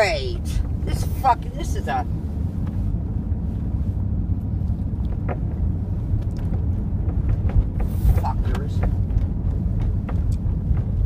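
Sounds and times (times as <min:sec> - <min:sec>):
car interior engine and road noise: 0:00.0 - 0:11.0.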